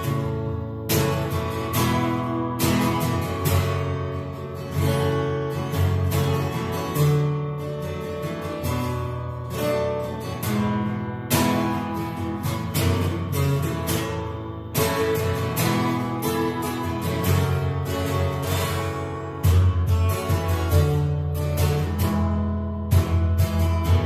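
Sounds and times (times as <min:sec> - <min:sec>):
acoustic guitar strummed: 0:00.0 - 0:24.0.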